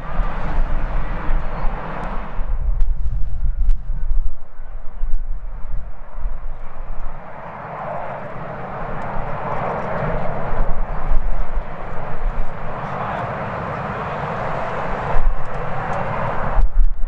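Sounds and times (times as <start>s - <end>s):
jet engines roaring: 0.0s - 2.7s, 4.4s - 16.7s
wind buffeting microphone: 0.0s - 17.0s.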